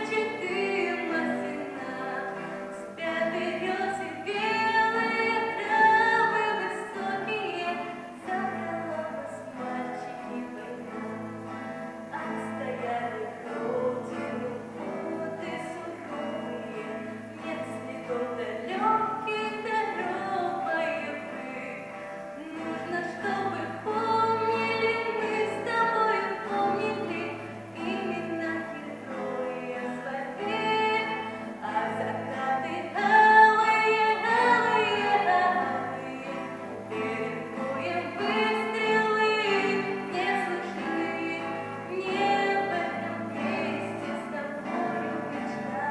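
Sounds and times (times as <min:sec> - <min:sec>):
children singing together: 0:00.0 - 0:45.9.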